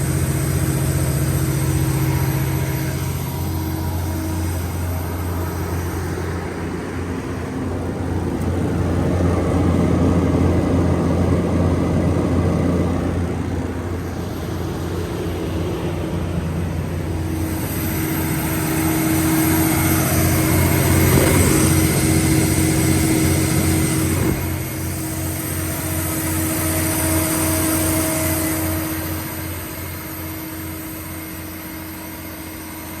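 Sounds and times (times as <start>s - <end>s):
diesel generator engine droning: 0.0s - 33.0s.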